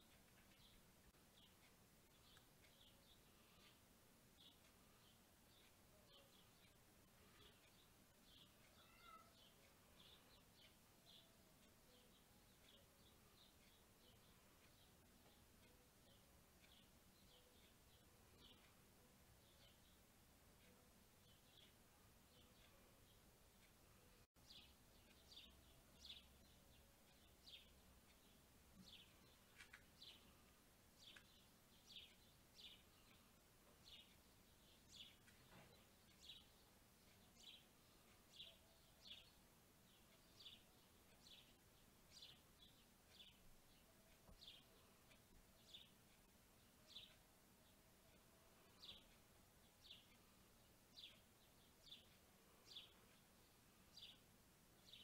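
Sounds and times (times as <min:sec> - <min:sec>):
faint bird chirping: 0:00.0 - 0:55.0
soft background hiss: 0:00.0 - 0:55.0.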